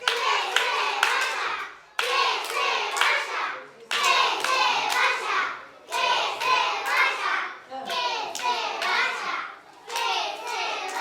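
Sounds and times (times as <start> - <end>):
hand claps: 0.0 - 5.3, 5.9 - 9.2, 9.9 - 11.0
group of voices chanting: 0.0 - 11.0.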